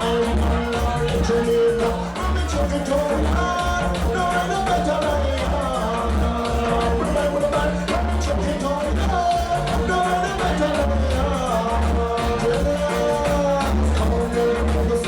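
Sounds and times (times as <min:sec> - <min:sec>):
live reggae band playing: 0:00.0 - 0:15.0.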